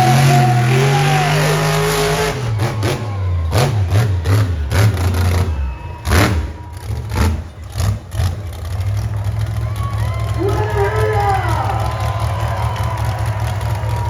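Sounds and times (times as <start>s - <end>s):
engine sharp cracks: 0.0s - 14.0s
monster truck engine revving: 0.0s - 14.0s.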